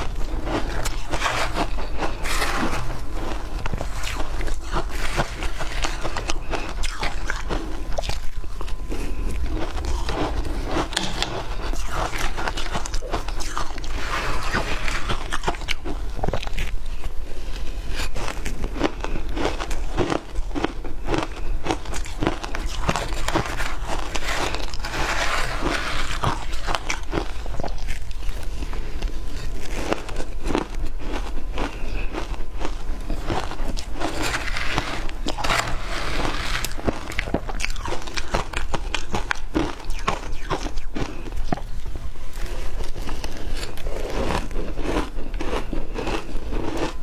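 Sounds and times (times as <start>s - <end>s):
person chewing ice: 0.0s - 47.0s.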